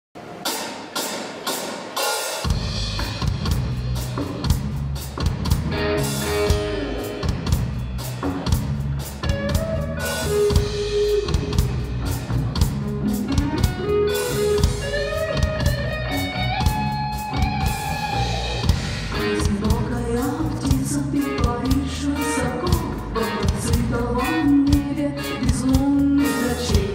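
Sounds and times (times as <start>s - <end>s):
drum kit: 0.2s - 26.9s
bass guitar: 2.5s - 26.9s
electric guitar: 5.2s - 26.9s.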